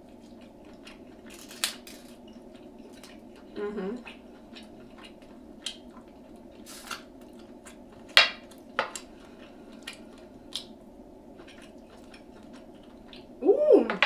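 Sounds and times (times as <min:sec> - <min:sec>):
crunchy eating: 0:00.0 - 0:13.4
faint steady hum: 0:00.0 - 0:14.0.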